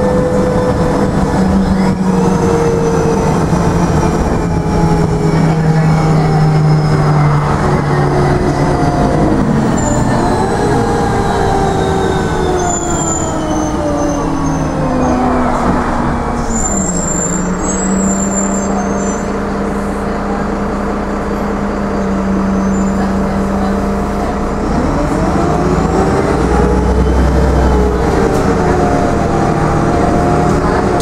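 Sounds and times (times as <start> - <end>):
bus diesel engine: 0.0 - 31.0
road rumble: 0.0 - 31.0.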